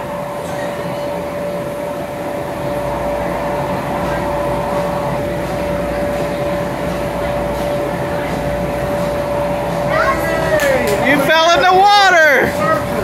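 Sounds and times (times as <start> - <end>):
electric air blower whirring: 0.0 - 13.0.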